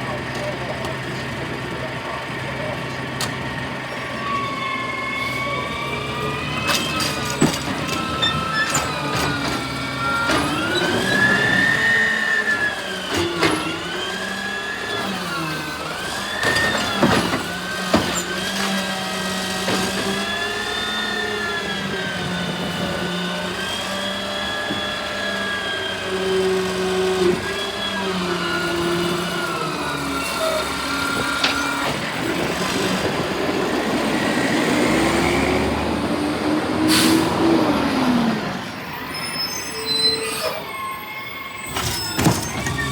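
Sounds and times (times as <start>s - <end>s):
garbage truck engine: 0.0s - 42.9s.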